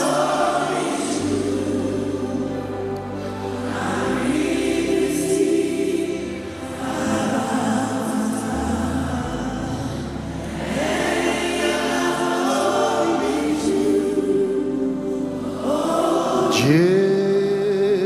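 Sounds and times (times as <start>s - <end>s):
sustained instrumental accompaniment: 0.0s - 18.0s
voices singing praise song: 0.0s - 18.0s.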